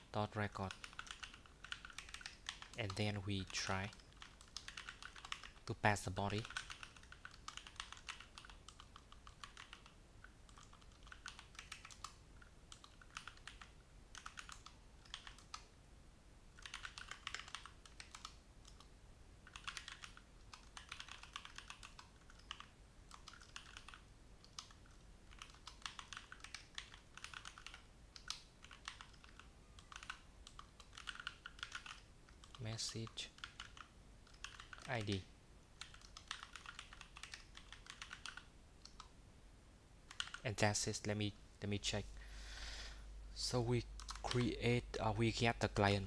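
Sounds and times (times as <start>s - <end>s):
faint keyboard typing: 0.0s - 15.8s, 16.5s - 39.2s, 40.0s - 42.1s, 42.9s - 46.0s.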